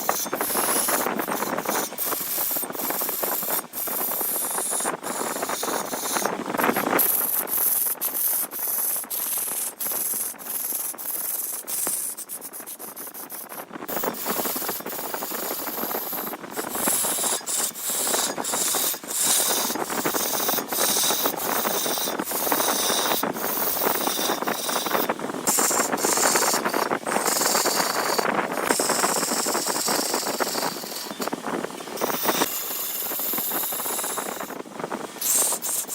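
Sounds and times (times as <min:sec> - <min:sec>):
lathe tool rubbing wood: 0:00.0 - 0:35.9.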